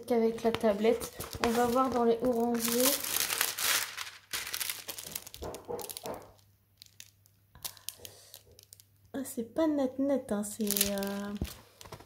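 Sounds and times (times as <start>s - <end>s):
plastic sleeve crinkling: 0.1s - 9.1s, 10.6s - 12.0s.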